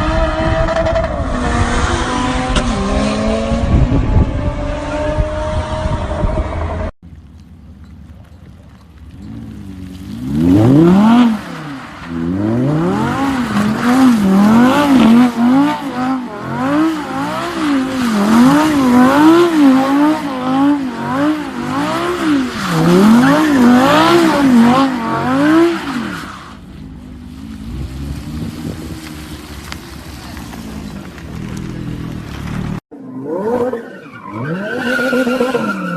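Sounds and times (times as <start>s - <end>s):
car engine revving: 0.0s - 6.9s, 9.0s - 35.9s.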